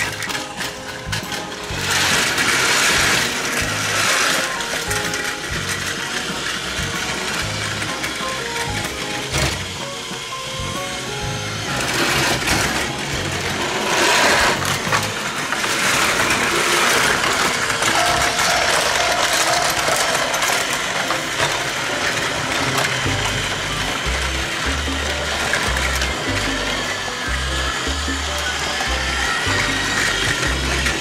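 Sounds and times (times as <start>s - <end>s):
background music: 0.0s - 31.0s
toy train motors whirring: 0.0s - 31.0s.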